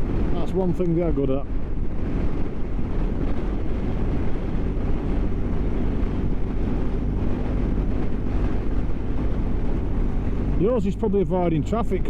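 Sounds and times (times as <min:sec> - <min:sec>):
motorcycle engine drone: 0:00.0 - 0:12.0
wind noise on microphone: 0:00.0 - 0:12.0.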